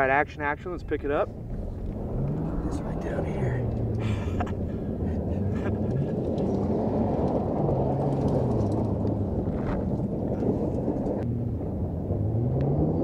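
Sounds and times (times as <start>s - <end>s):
pickup engine running: 0.8s - 12.1s.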